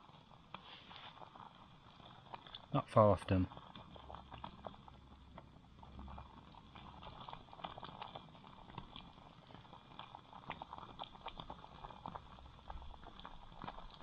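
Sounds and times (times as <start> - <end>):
thick sauce bubbling in a pot: 0.0 - 14.0.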